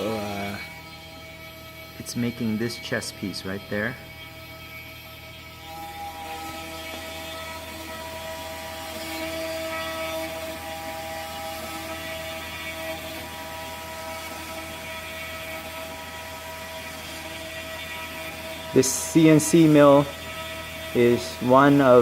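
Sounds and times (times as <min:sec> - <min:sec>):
cutter rushing through wood: 0:00.0 - 0:22.0
mill spindle whine: 0:00.0 - 0:22.0.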